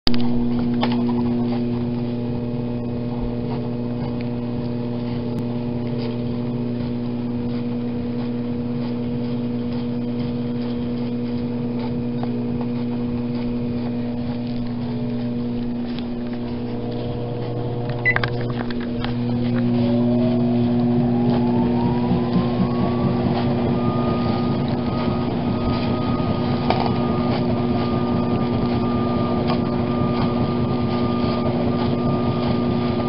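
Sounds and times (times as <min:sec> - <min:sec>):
treadmill motor hum: 0:00.1 - 0:33.0.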